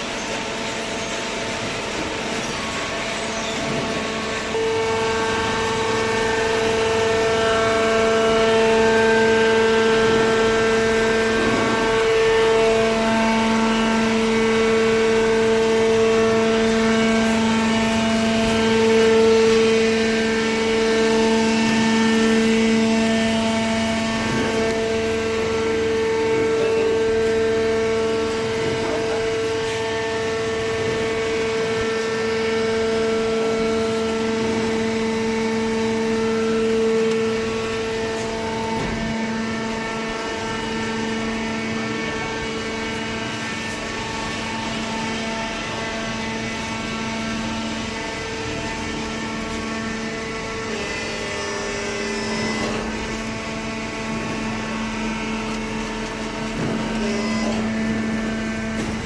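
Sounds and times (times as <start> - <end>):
hydraulic pump hum and whine: 0.0 - 59.0.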